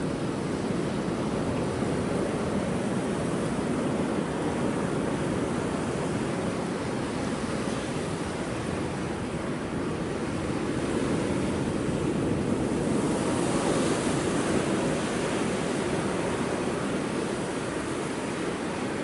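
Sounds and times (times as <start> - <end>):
ocean waves breaking on rocks: 0.0 - 19.0.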